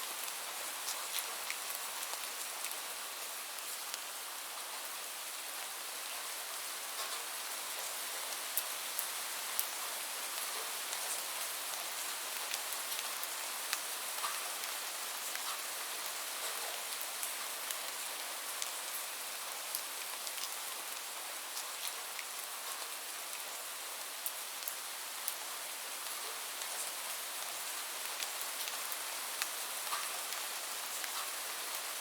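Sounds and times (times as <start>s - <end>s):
light rain falling: 0.0s - 32.0s
raindrops ticking on a surface: 0.1s - 4.8s, 6.9s - 32.0s.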